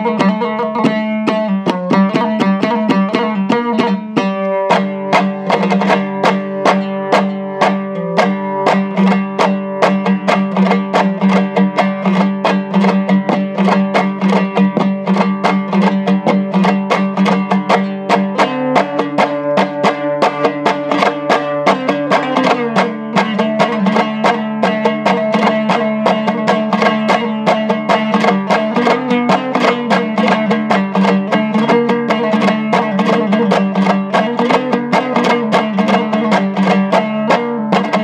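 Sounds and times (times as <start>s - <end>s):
plucked string lute: 0.0s - 38.0s.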